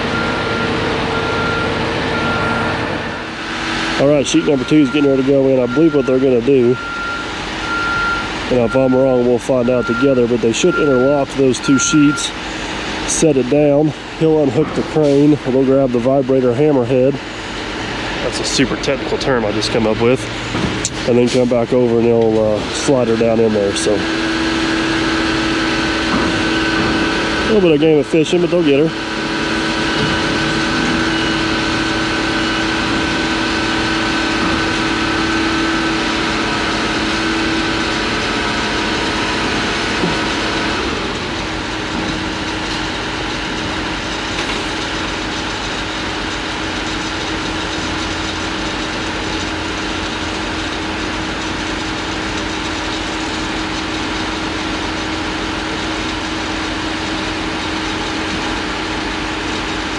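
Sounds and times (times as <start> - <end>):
diesel engine running: 0.0 - 59.9
higher engine tone: 0.0 - 59.9.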